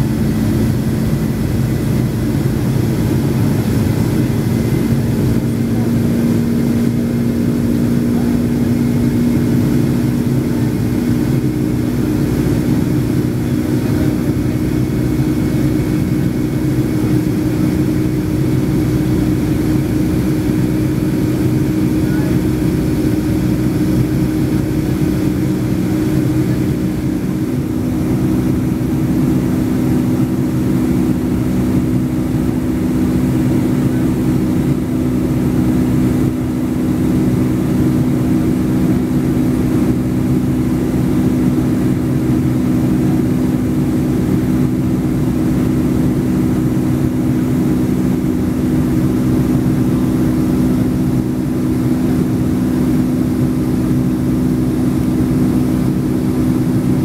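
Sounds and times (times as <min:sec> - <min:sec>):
jet engines humming: 0:00.0 - 0:57.0.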